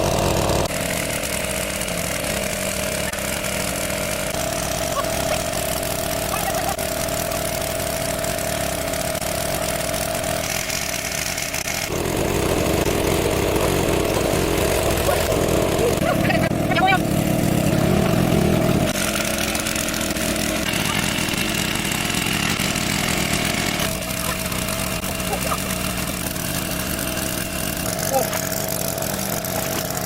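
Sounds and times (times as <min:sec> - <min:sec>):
water pump engine running: 0:00.0 - 0:30.0.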